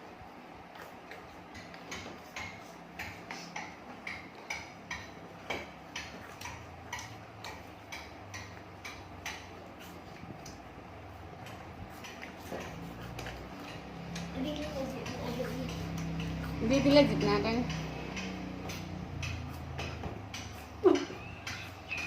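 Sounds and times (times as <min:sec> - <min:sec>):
regular ticking: 0:01.4 - 0:22.0.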